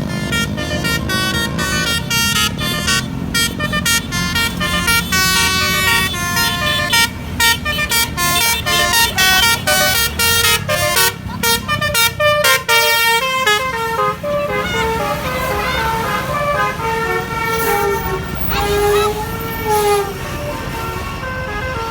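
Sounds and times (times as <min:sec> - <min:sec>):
bus musical horn melody: 0:00.0 - 0:21.9
low vehicle noise: 0:00.0 - 0:21.9.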